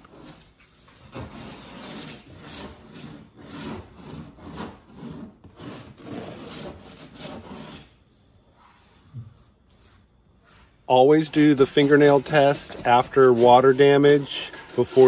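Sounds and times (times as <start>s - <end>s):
fingernails scratching drywall: 0.0s - 15.0s.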